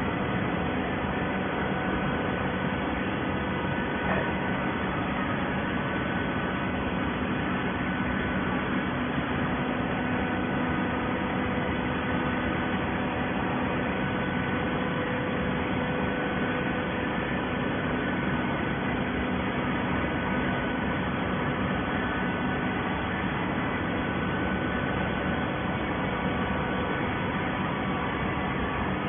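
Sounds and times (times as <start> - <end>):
machine motor and pump humming: 0.0 - 29.0.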